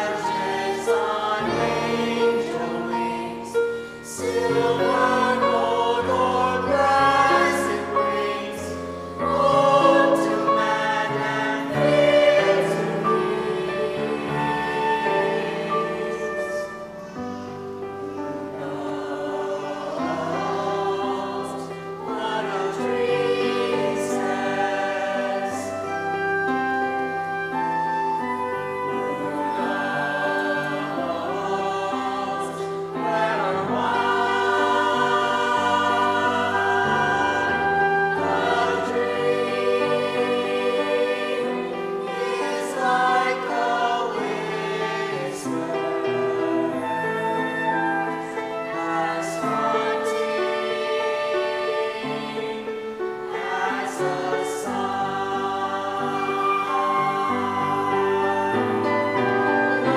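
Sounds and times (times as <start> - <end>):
choir singing: 0.0 - 59.9
instrumental accompaniment: 0.0 - 59.9.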